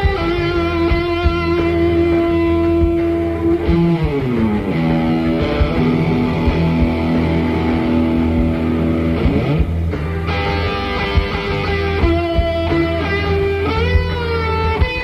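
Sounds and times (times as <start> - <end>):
fuzz electric guitar lead notes: 0.0 - 15.0.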